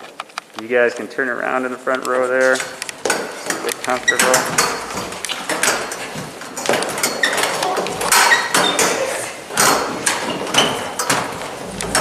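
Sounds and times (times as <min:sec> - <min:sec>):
chairs clattering and squeaking on floor: 0:01.6 - 0:12.0.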